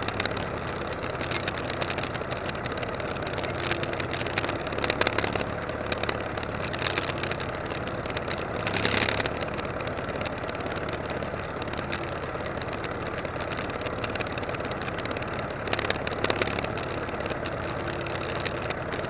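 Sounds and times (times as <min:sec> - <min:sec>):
sharp clicks: 0:00.0 - 0:19.0
tractor diesel engine running: 0:00.0 - 0:19.0.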